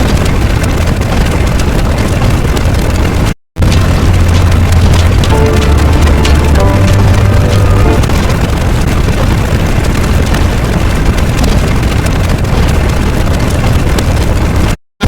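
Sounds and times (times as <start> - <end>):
deep continuous rumbling: 0.0 - 14.8.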